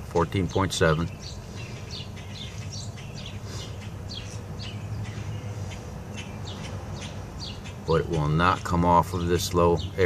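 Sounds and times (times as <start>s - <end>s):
bird chirping: 0.0s - 10.0s
steady low hum: 0.0s - 10.0s.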